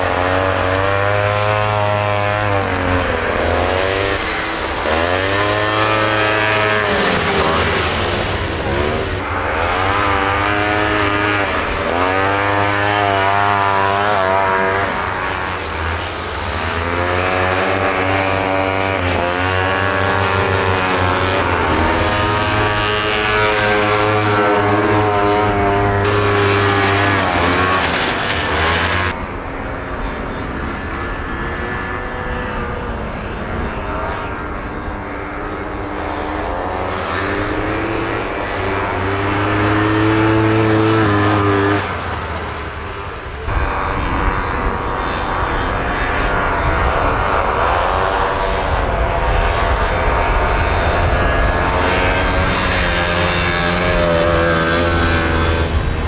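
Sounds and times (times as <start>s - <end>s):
snowmobile engines racing: 0.0s - 56.0s
snowmobile passing close: 0.0s - 56.0s.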